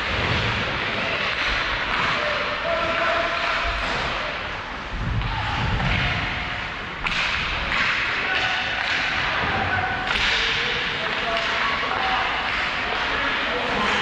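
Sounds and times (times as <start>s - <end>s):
noisy rink background: 0.0s - 14.0s.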